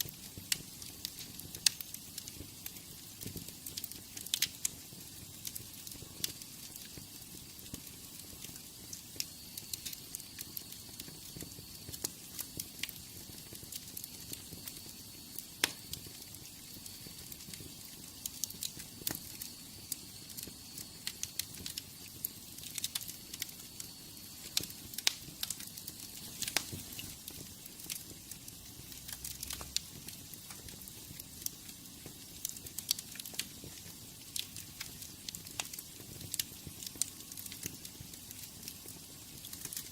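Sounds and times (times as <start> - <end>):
hiss of flames: 0.0 - 39.9
wood fire crackling: 0.0 - 39.9.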